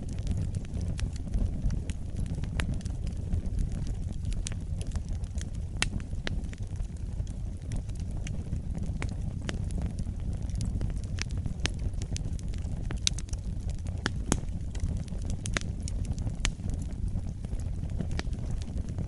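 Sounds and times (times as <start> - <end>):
fire crackling and popping: 0.0 - 19.0
wood fire rumbling: 0.0 - 19.0.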